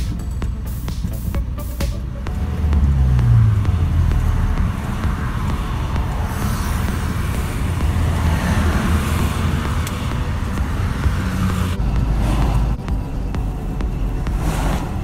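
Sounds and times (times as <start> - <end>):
diesel truck engine rumble: 0.0 - 15.0
tyre and road noise: 0.0 - 15.0.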